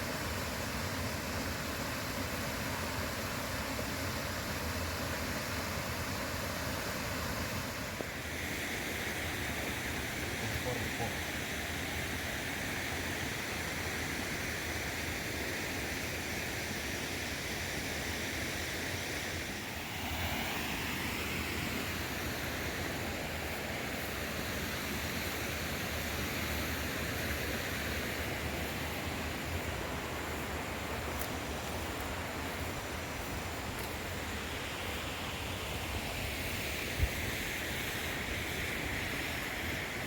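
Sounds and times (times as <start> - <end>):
river water rushing over rocks: 0.0 - 40.0.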